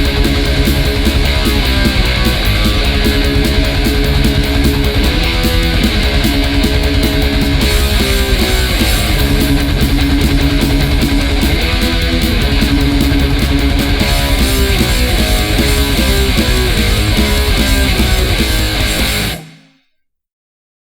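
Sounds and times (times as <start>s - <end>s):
bass guitar: 0.0s - 19.6s
crashing cymbals: 0.0s - 19.7s
distorted electric guitar riffing: 0.0s - 19.7s
drums: 0.0s - 19.8s.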